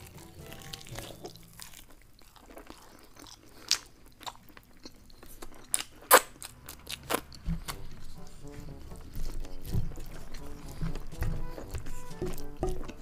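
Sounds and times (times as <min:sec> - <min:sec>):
biting and chewing crunchy food: 0:00.0 - 0:13.0.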